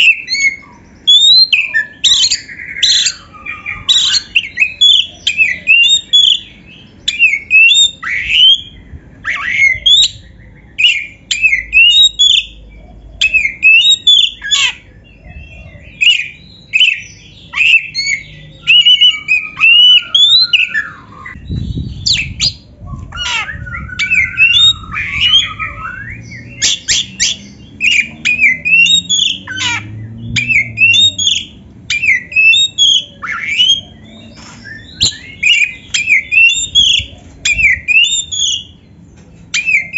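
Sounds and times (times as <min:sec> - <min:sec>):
songbird singing whistled squawky notes: 0:00.0 - 0:39.9.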